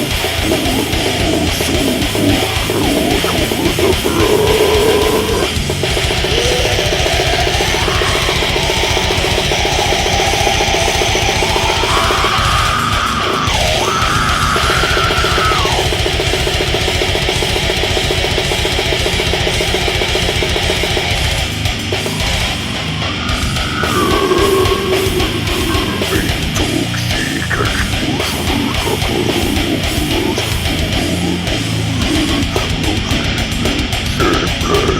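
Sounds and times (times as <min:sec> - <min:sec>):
distorted guitars: 0:00.0 - 0:34.9
fast dense drumming: 0:00.0 - 0:34.9.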